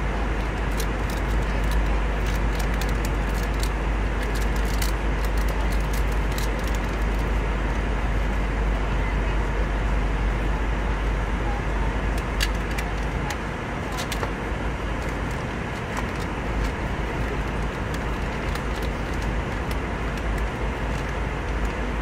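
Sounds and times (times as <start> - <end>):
airliner cabin noise: 0.0 - 22.0.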